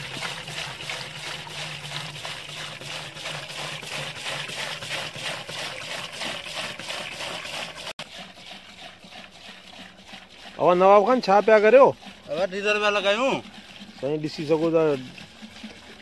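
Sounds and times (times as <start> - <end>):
liquid pouring into a steel drum: 0.0 - 16.0.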